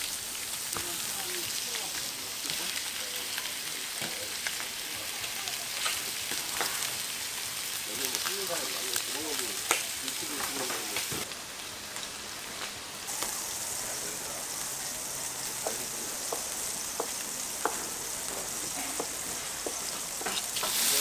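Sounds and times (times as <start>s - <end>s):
sizzling on hot griddle: 0.0s - 21.0s.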